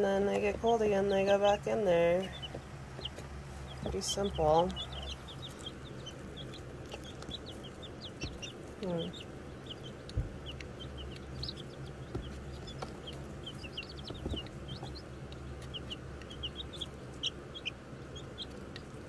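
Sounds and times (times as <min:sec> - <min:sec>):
chicks peeping: 0:00.0 - 0:19.0
steady low hum: 0:00.0 - 0:19.0.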